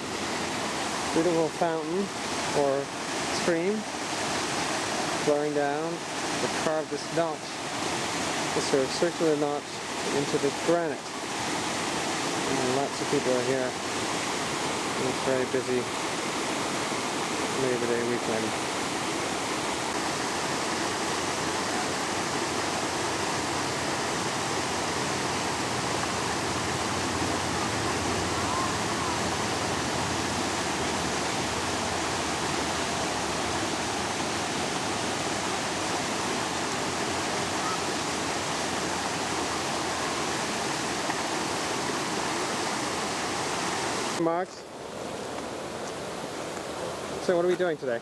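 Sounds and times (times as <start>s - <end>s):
stream water rushing: 0.0s - 48.0s.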